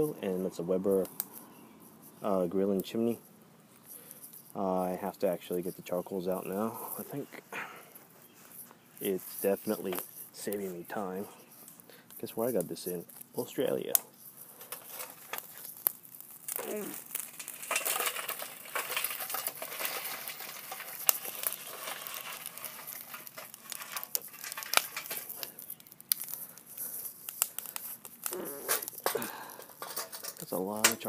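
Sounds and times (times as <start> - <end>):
charcoal tumbling and clinking: 0.0 - 31.0.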